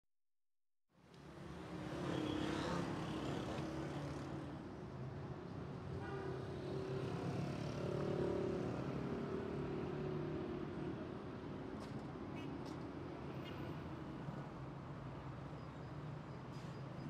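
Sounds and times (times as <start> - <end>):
street traffic noise: 1.0 - 17.0.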